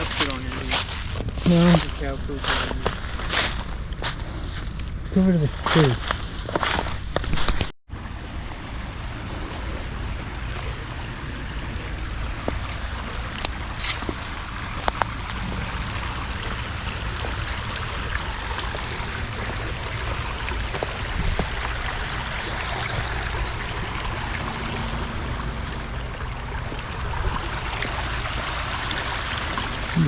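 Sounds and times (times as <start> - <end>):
creek flowing: 0.0 - 30.0.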